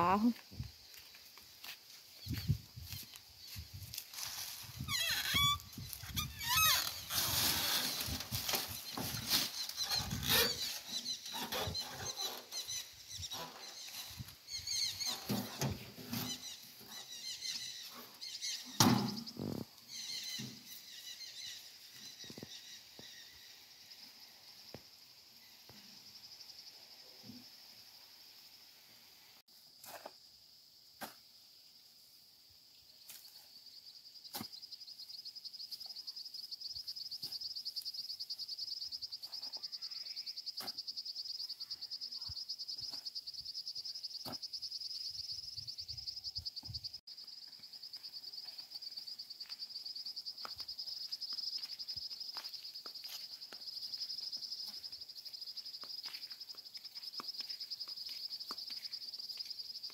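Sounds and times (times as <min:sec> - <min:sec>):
insect chorus: 0:00.0 - 0:59.9.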